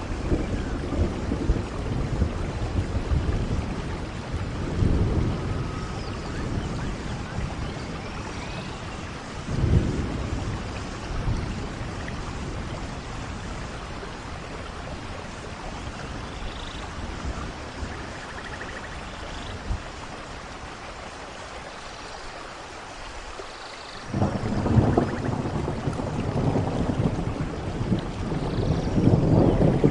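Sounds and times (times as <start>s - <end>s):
rolling thunder: 0.0s - 18.9s, 24.1s - 29.9s
steady rain: 0.0s - 29.9s.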